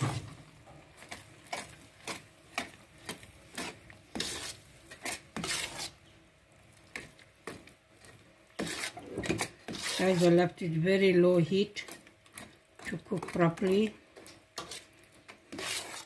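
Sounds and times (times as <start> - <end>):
spoon stirring in a metal pot: 0.0 - 16.0.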